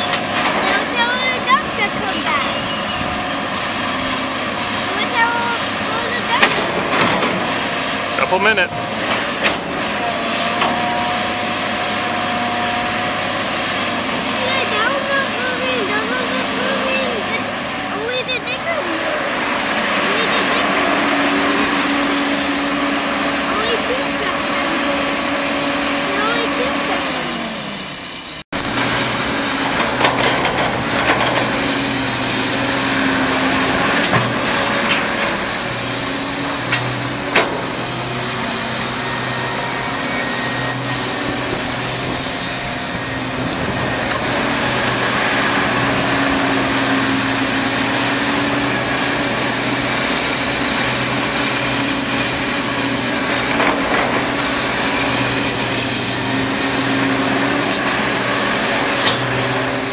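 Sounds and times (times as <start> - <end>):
backhoe diesel engine working: 0.0 - 59.9.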